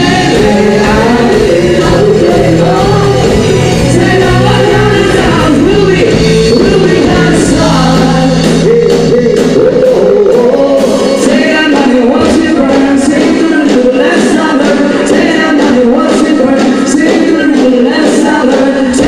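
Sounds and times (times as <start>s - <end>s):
bass guitar: 0.0s - 16.6s
drums: 0.0s - 19.0s
electric guitar: 0.0s - 19.0s
person singing: 0.0s - 19.0s.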